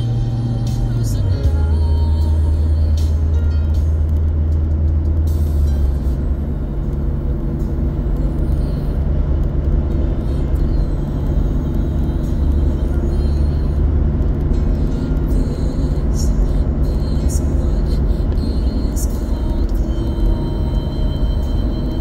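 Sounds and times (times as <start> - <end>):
background music: 0.0 - 22.0
car road rumble: 0.0 - 22.0.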